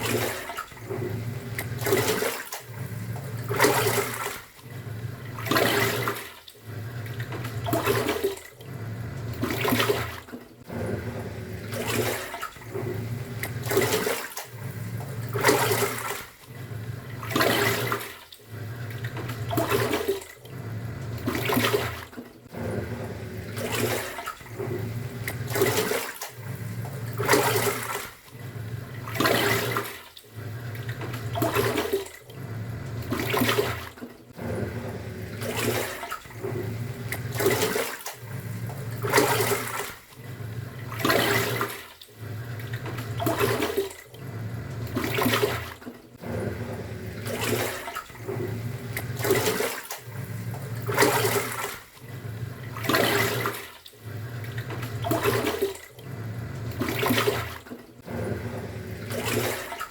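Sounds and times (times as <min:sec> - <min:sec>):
washing machine motor hum: 0:00.0 - 0:59.9
water sloshing in washing machine: 0:00.0 - 0:59.9.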